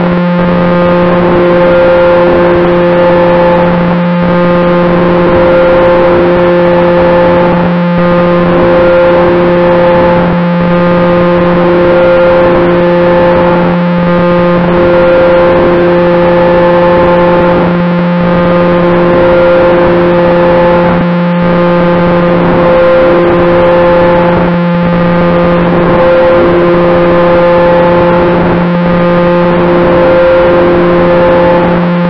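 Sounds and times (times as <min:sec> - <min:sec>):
model plane propeller drone: 0:00.0 - 0:32.0.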